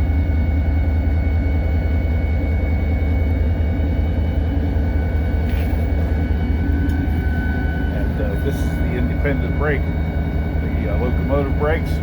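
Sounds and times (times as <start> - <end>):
diesel locomotive engine drone: 0.0 - 12.0
steady high whine: 0.0 - 12.0.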